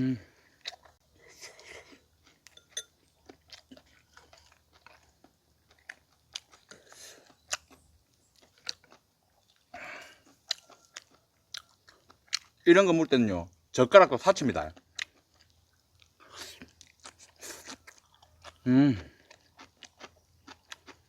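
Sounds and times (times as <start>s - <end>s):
person chewing food: 0.3s - 12.6s, 14.7s - 21.0s.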